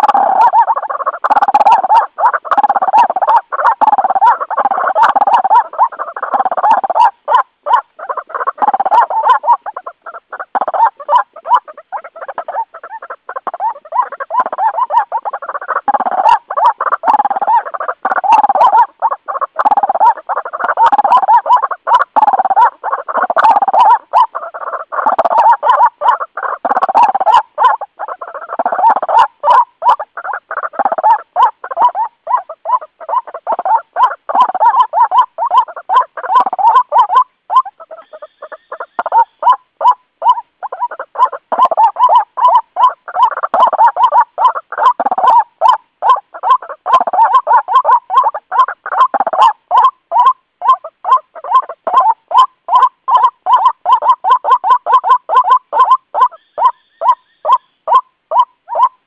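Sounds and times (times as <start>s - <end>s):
waterhen croaking calls: 0.0s - 59.0s.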